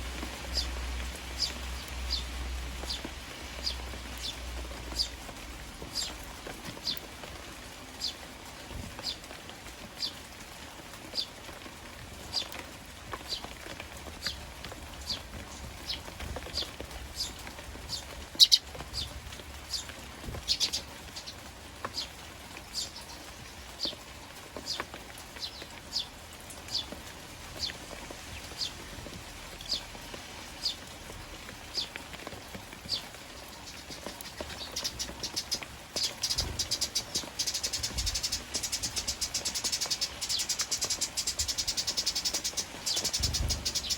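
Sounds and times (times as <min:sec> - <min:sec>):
sparrows chirping: 0:00.0 - 0:10.3, 0:11.0 - 0:11.4, 0:12.2 - 0:28.9, 0:29.6 - 0:32.0, 0:32.8 - 0:43.9
rain pattering: 0:00.0 - 0:43.9.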